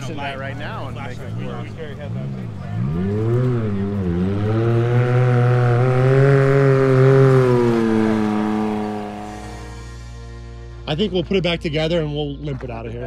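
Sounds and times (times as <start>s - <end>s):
engine running hard passing by: 0.0s - 11.2s.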